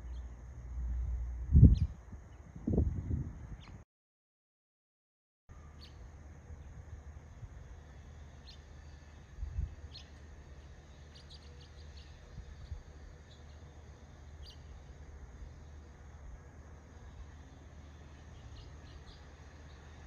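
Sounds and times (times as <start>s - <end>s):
low outdoor rumble: 0.0s - 3.8s, 5.5s - 20.0s.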